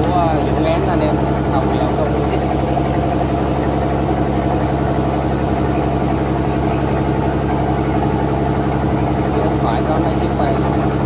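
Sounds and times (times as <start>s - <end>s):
boat diesel engine droning: 0.0s - 11.0s.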